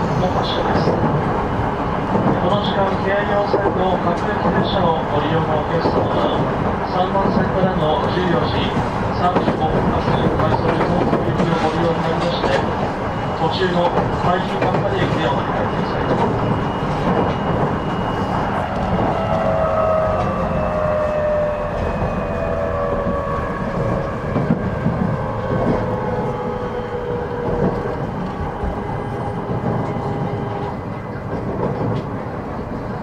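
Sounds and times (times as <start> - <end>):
train running rumble: 0.0 - 33.0.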